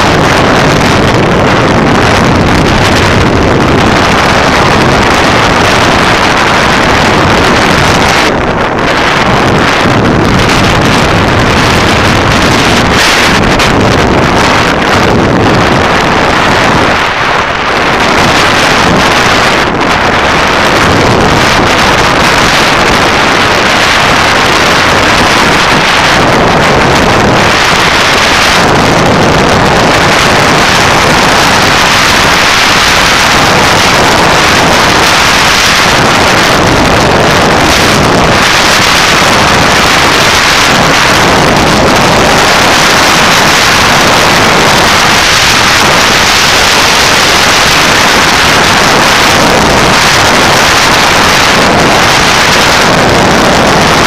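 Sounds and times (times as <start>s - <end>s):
motorcycle engine and tyre noise: 0.0s - 54.0s
wind rushing over microphone: 0.0s - 54.0s.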